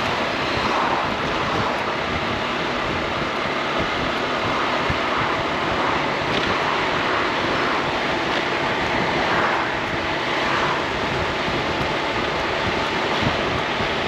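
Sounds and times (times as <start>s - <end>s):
scooter road noise: 0.0s - 14.0s
wind rush: 0.0s - 14.0s.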